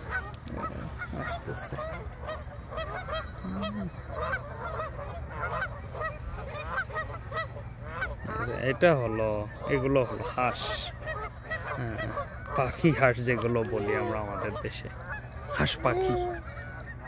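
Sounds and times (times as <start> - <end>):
geese honking: 0.0 - 17.0
low background hum: 0.0 - 17.0.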